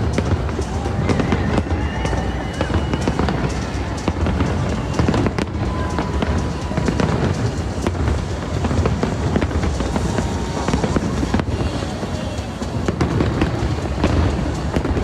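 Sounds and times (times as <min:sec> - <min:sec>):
fireworks bangs and crackles: 0:00.0 - 0:15.0
fireworks booming: 0:00.0 - 0:15.0.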